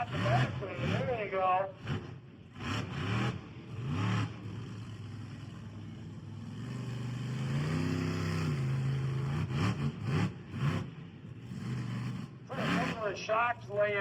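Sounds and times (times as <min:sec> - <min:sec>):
monster truck engine running: 0:00.0 - 0:14.0.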